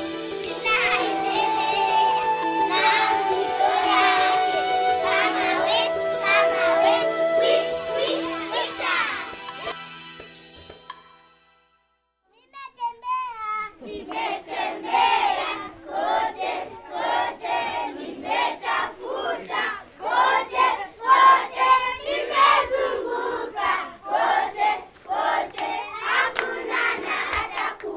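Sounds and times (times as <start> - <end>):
children singing in unison: 0.0 - 9.8, 13.8 - 27.9.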